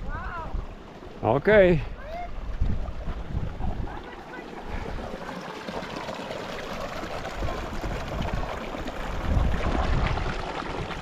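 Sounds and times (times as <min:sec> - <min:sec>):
creek water rushing: 0:00.4 - 0:11.0.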